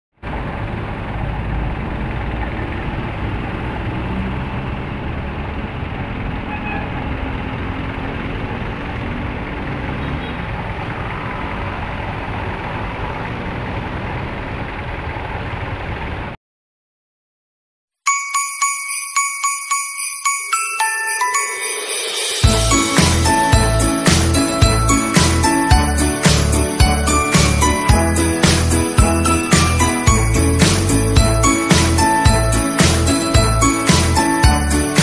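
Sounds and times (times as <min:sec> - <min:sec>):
road traffic rumble: 0:00.2 - 0:16.4, 0:21.3 - 0:35.0.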